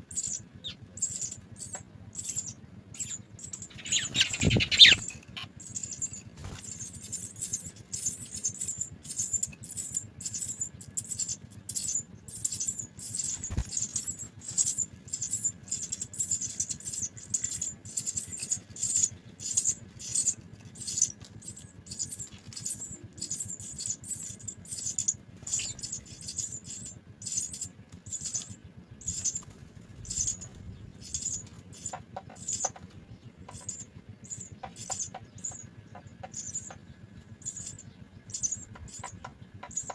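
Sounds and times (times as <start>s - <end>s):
nestlings cheeping: 0.0s - 39.9s.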